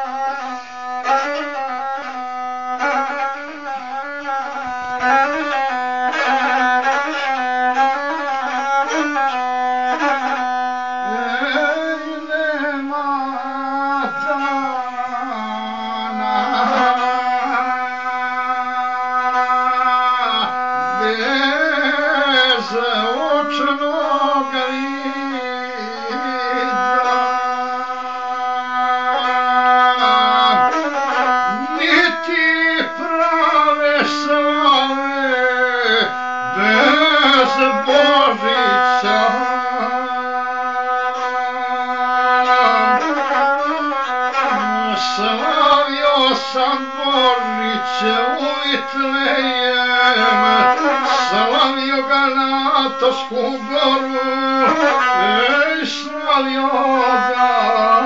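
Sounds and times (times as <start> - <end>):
bowed folk fiddle melody: 0.0 - 58.0.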